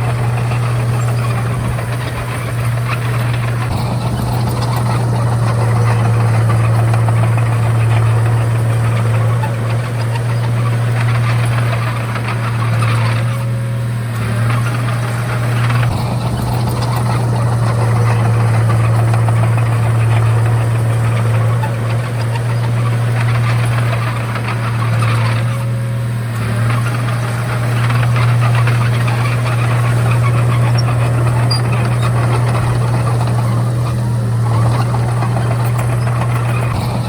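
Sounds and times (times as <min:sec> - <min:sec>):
bulldozer diesel engine running: 0:00.0 - 0:37.0
harsh machine noise: 0:00.0 - 0:37.0.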